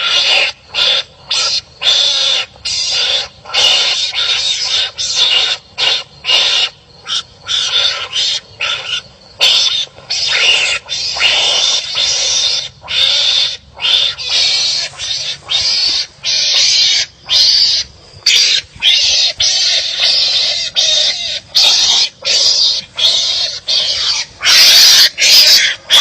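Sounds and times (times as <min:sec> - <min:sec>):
animals screeching while fighting: 0:00.0 - 0:26.0.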